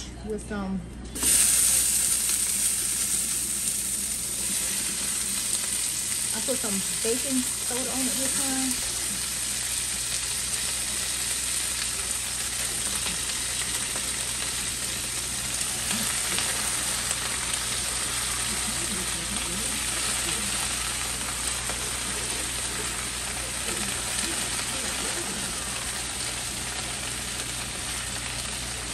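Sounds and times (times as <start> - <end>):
cabbage sizzling in grease: 1.2 - 28.9.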